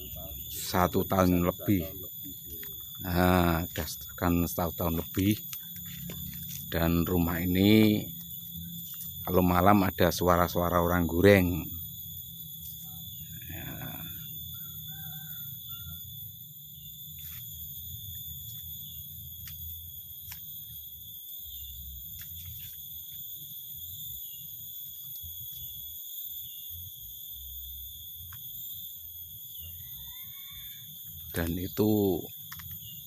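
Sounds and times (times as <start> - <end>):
steady high-pitched whine: 0.0 - 30.0.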